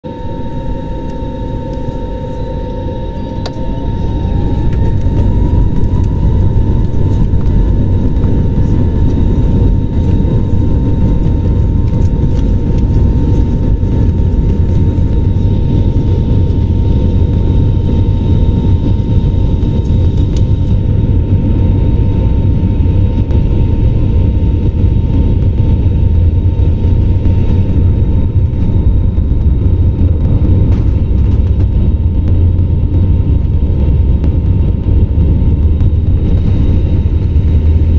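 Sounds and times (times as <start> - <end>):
aircraft engines and wheels rumbling: 0.0 - 37.9
faint steady whine: 0.0 - 37.9.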